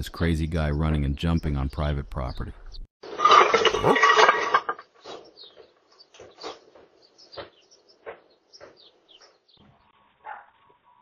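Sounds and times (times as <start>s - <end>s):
small birds chirping: 0.0s - 2.9s, 4.9s - 11.0s.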